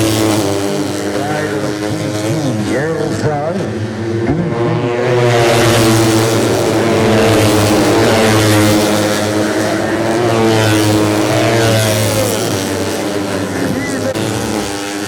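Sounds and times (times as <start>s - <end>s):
motorcycle passing by: 0.0s - 15.0s
motorcycles revving high: 0.0s - 15.0s.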